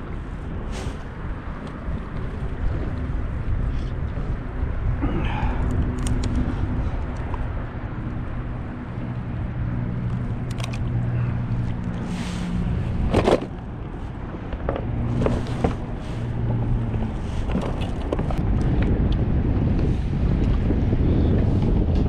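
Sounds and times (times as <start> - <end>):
water around a kayak: 0.0 - 22.0
wind on microphone: 0.0 - 22.0.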